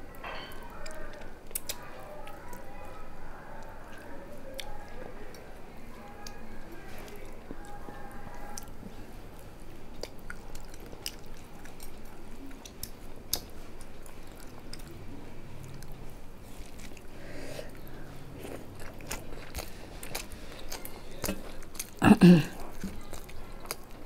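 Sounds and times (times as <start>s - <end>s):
chewing food: 0.2s - 24.0s.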